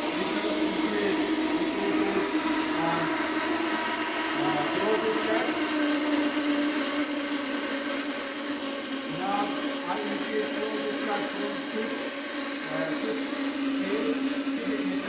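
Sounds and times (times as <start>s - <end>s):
pump humming: 0.0s - 15.0s.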